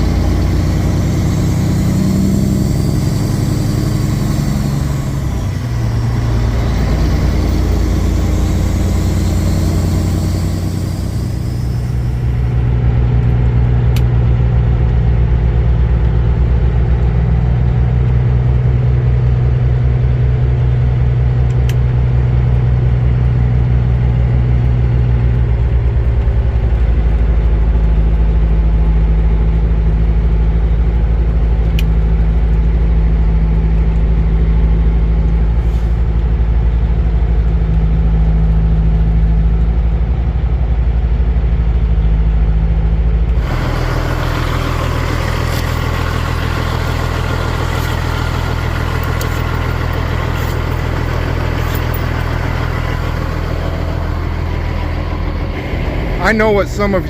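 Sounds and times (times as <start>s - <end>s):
truck diesel engine droning: 0.0s - 57.0s.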